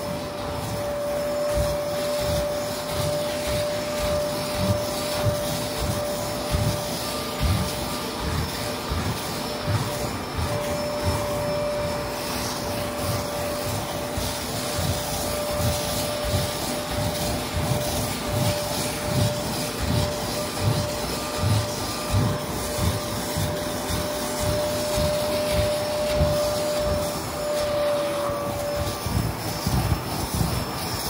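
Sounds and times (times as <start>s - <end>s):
carpet cleaner motor whine: 0.0s - 31.0s
rhythmic rubbing strokes: 0.0s - 31.0s.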